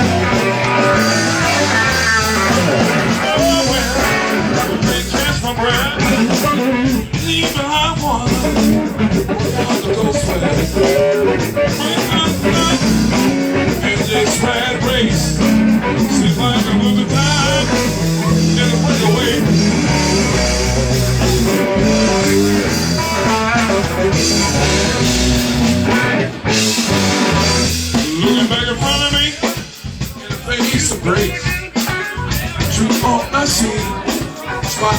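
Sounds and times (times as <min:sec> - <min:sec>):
electric guitar lines: 0:00.0 - 0:34.9
live rock band playing: 0:00.0 - 0:34.9.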